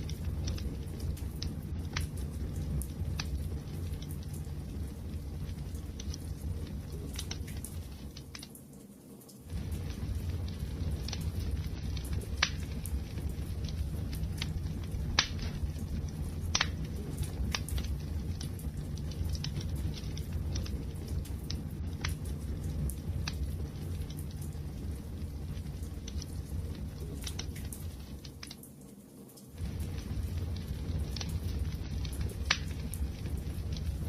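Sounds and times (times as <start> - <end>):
sharp pops of fire: 0.0 - 8.6, 9.5 - 28.6, 29.6 - 34.0
wood fire crackling: 0.0 - 34.0.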